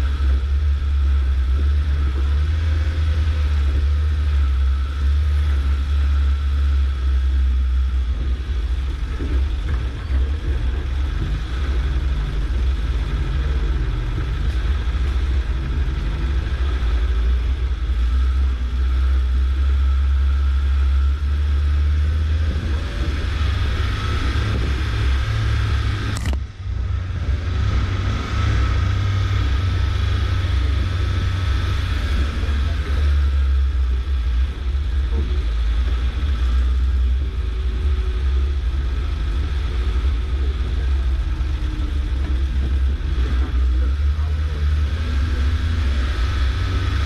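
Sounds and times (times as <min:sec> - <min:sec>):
vehicle engine deep rumble: 0:00.0 - 0:47.0.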